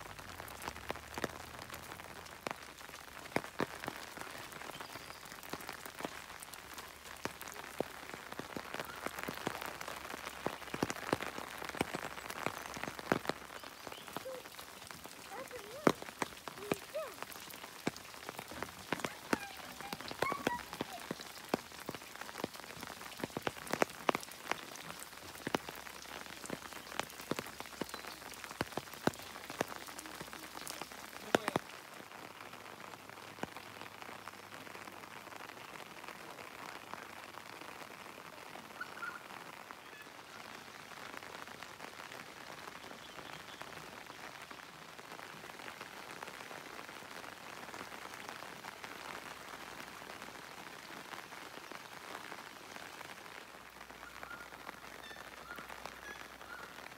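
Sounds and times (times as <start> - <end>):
raindrops tapping close by: 0.0 - 56.9
steady rain hiss: 0.0 - 56.9.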